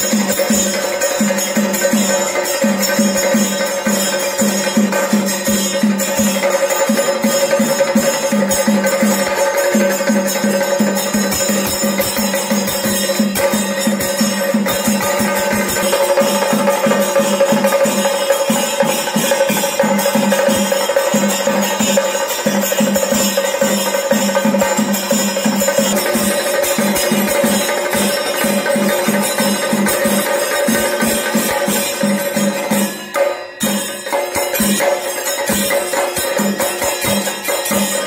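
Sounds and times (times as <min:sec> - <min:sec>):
drums beaten in steady rhythm: 0:00.0 - 0:38.0
jingling metallic shimmer: 0:00.0 - 0:38.0.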